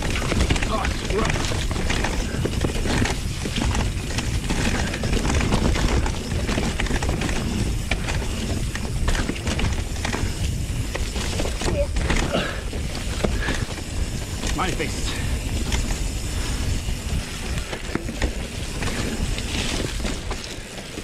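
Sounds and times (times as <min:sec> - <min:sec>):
bike rattling and knocking: 0:00.0 - 0:21.0
bike tyres on dirt trail: 0:00.0 - 0:21.0
wind rumble on microphone: 0:00.0 - 0:21.0.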